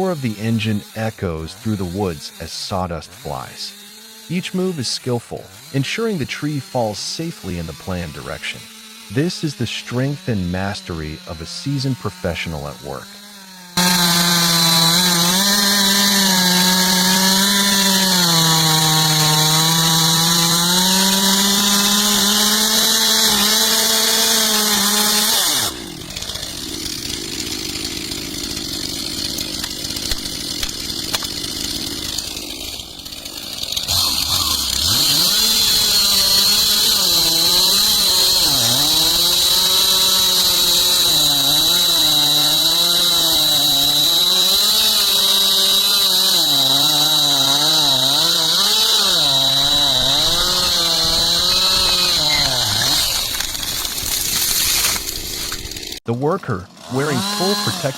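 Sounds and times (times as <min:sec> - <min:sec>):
chainsaw cutting into tree trunk: 0:00.0 - 0:57.9.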